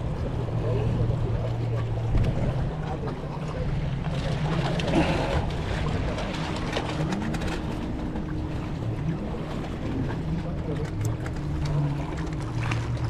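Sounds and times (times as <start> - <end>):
faint higher hum: 0.0 - 13.0
motorboat engine drone: 0.0 - 13.0.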